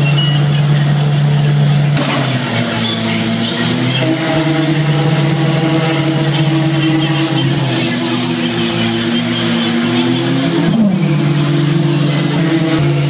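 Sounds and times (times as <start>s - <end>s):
loud engine drone: 0.0s - 13.0s.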